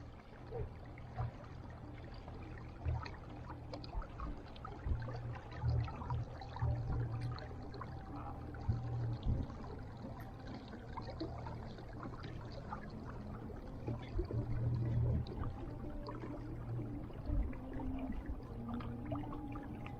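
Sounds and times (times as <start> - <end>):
water lapping against boat: 0.0 - 19.9.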